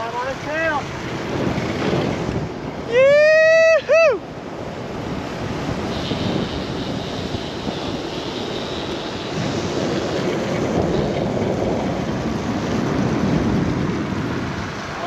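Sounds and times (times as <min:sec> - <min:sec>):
tyres rolling on road: 0:00.0 - 0:15.0
wind rushing over microphone: 0:00.0 - 0:15.0.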